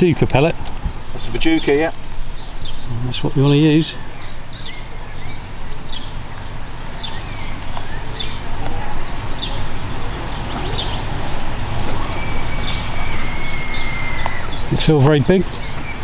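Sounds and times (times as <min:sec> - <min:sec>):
rapid high-pitched ticking: 0:00.0 - 0:16.0
small birds chirping: 0:00.0 - 0:16.0.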